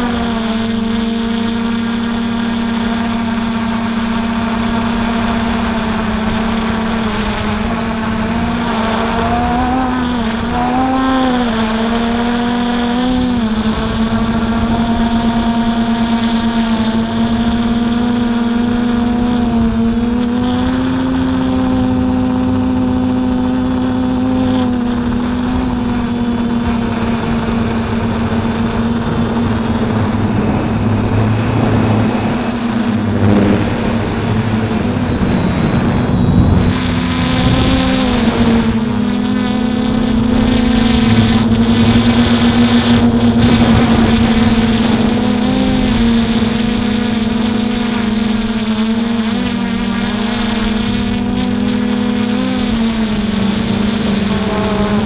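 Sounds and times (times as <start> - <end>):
drone motors humming: 0.0 - 55.0
wind noise: 0.0 - 55.0.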